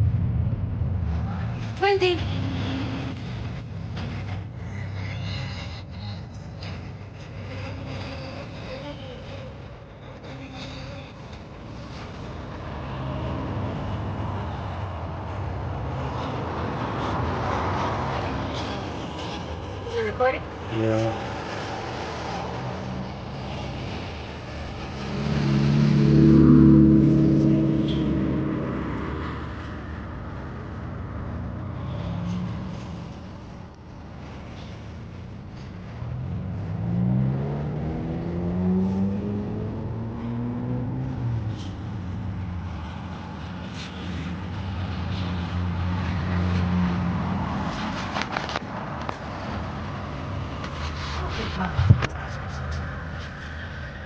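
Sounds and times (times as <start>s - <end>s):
road noise: 0.0s - 54.0s
vehicle passing by: 0.0s - 54.0s.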